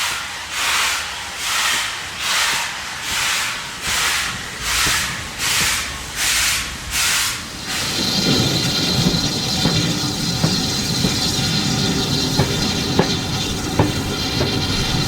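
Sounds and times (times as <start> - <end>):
steam hiss: 0.0 - 15.0
steam locomotive rumble: 0.0 - 15.0.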